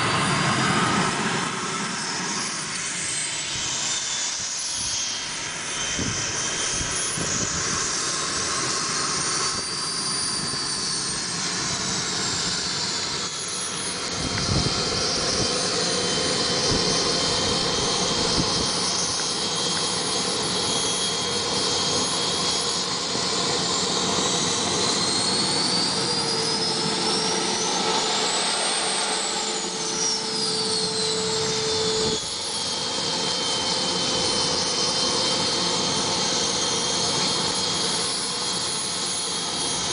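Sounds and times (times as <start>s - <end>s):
model jet engine roaring and whining: 0.0s - 39.9s.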